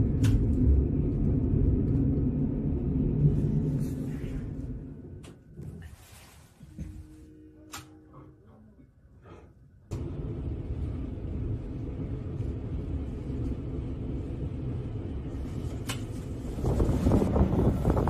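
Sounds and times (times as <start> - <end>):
train rumbling inside carriage: 0.0 - 18.0.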